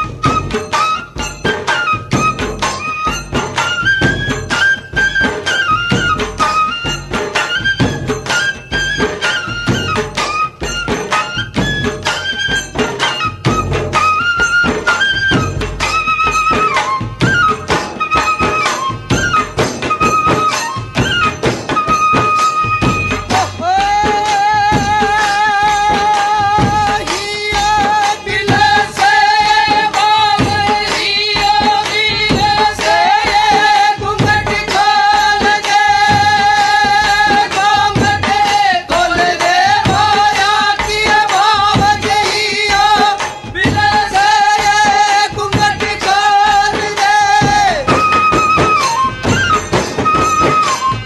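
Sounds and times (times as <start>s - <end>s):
high long-held melody: 0.0s - 42.8s, 44.4s - 51.0s
frame drums in steady rhythm: 0.0s - 51.0s.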